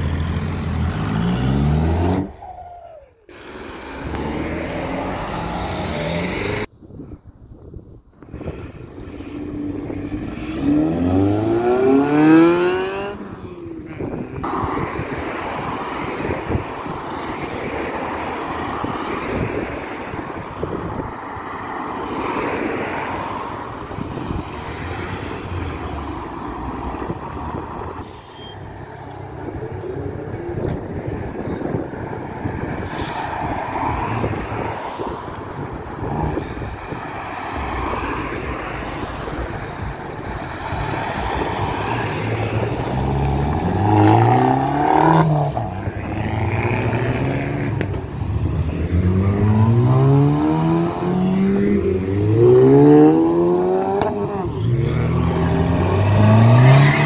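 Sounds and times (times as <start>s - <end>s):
cars driving past: 0.0s - 6.7s, 8.3s - 57.0s.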